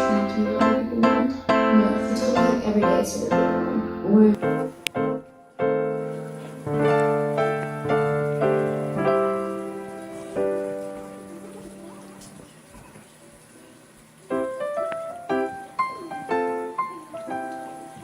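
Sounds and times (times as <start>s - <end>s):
piano music: 0.0s - 12.3s, 14.3s - 18.0s.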